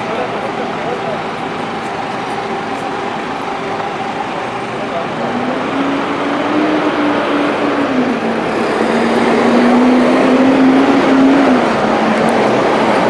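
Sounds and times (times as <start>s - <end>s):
road noise: 0.0s - 13.0s
vehicle engine hum passing: 0.0s - 13.0s.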